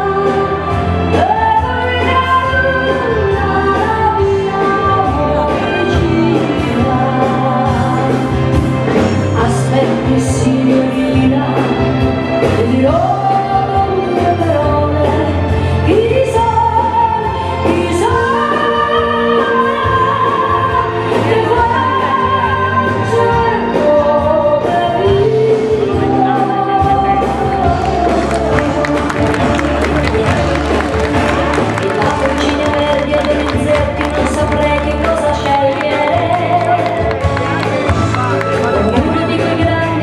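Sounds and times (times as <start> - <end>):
live band music: 0.0 - 40.0
steady bass line: 0.0 - 40.0.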